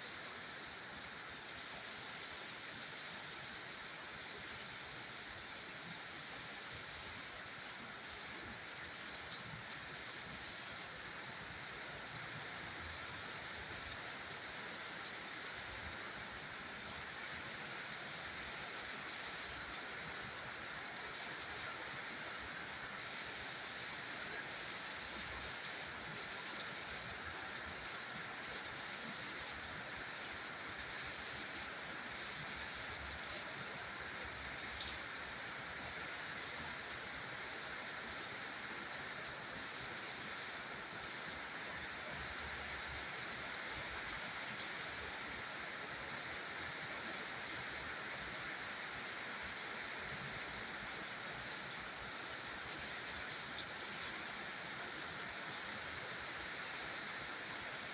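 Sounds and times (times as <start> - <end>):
steady rain hiss: 0.0 - 57.9.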